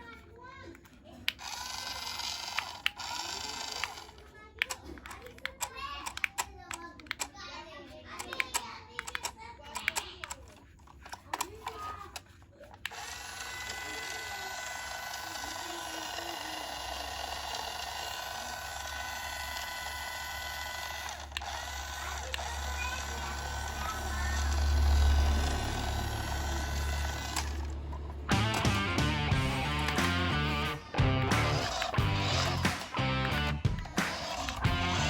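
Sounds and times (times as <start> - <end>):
toy truck electric motor whir: 0.0 - 7.4, 8.0 - 28.8, 29.6 - 35.0.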